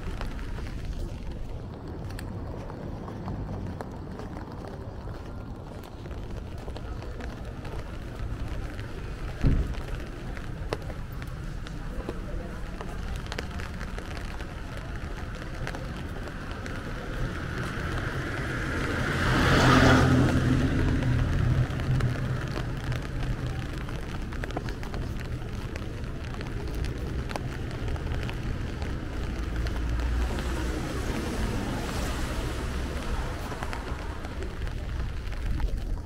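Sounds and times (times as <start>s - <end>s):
low traffic rumble: 0.0s - 36.0s
tyres hissing on wet road: 7.1s - 36.0s.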